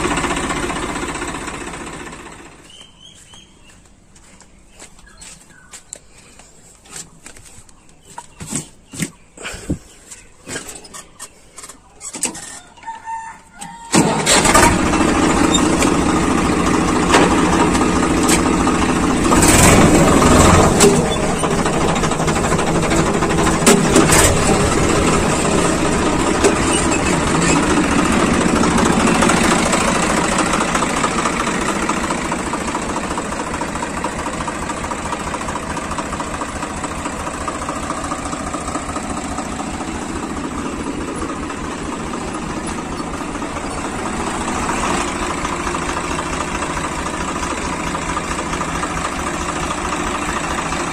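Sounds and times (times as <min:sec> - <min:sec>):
diesel tractor engine idling: 0:00.0 - 0:50.9.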